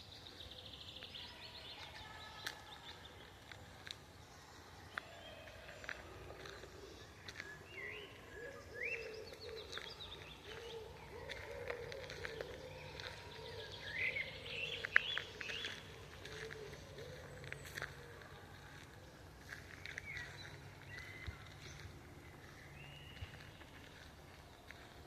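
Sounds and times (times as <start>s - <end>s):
birds singing and calling: 0.0s - 25.0s.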